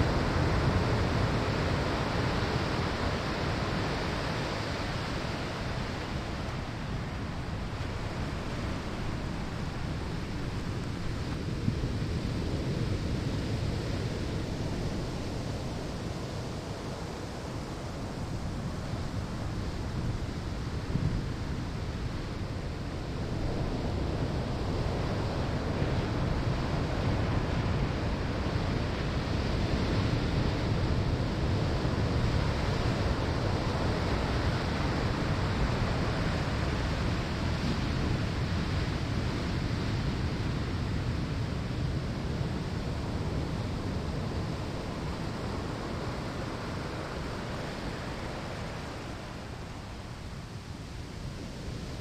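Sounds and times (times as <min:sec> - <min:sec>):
ocean surf on sandy shore: 0:00.0 - 0:52.0.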